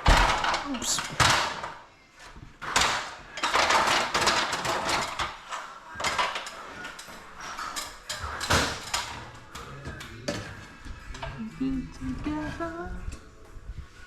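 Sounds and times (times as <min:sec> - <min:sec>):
garage door parts knocking and scraping: 0:00.0 - 0:11.4.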